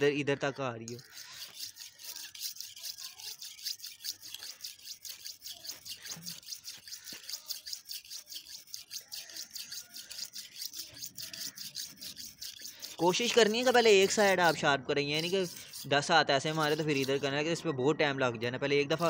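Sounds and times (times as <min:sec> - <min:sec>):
knife scraping on sharpening stone: 0:00.9 - 0:17.6.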